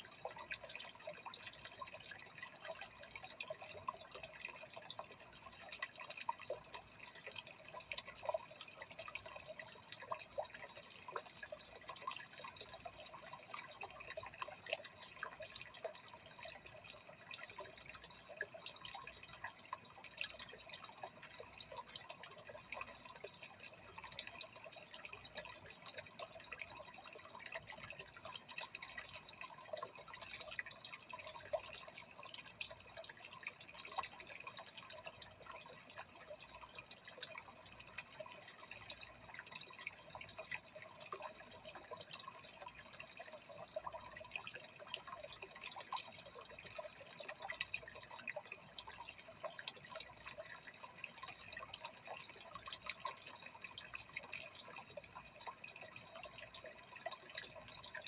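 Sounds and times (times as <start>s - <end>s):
aquarium water trickling and bubbling: 0.0s - 58.0s.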